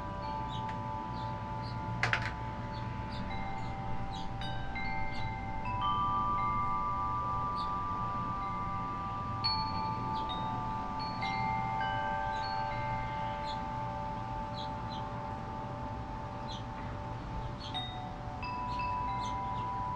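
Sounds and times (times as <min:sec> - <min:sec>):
wind chime ringing: 0:00.0 - 0:19.9.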